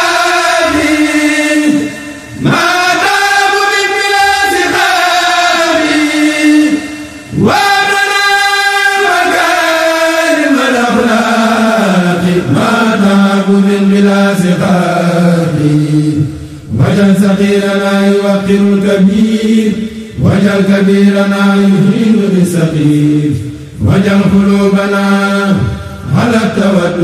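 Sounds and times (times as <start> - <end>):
men chanting: 0.0 - 27.0.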